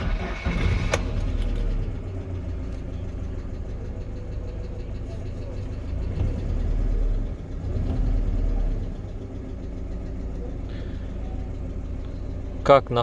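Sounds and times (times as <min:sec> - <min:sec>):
petrol engine revving and idling: 0:00.0 - 0:13.0.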